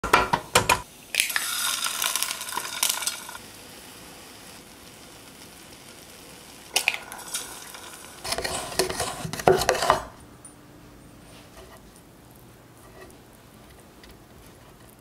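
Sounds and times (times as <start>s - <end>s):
eggs sizzling in pan: 0.0s - 10.2s, 11.5s - 15.0s.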